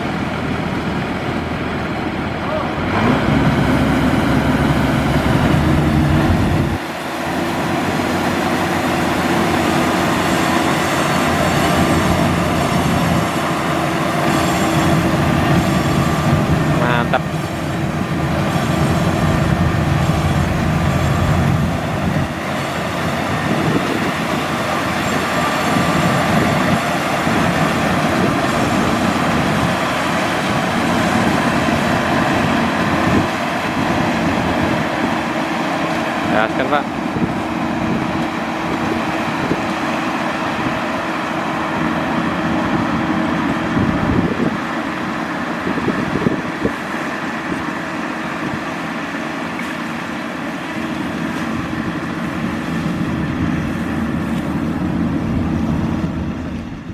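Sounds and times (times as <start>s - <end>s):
combine harvester droning: 0.0s - 56.9s.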